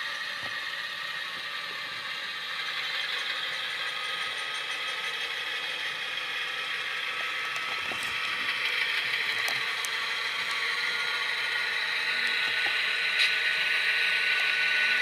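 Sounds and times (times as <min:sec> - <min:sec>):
diesel engine sound from small speaker: 0:00.0 - 0:15.0
gear whir and light clicking: 0:00.0 - 0:15.0.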